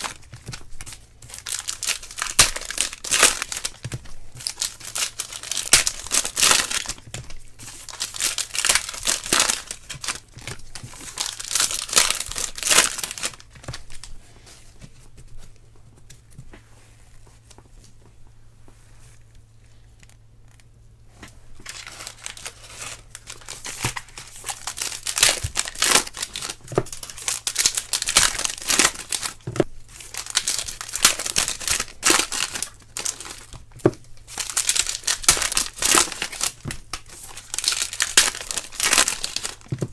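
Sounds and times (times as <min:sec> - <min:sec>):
foil wrappers tearing and crinkling: 0:00.0 - 0:14.1, 0:21.6 - 0:39.9.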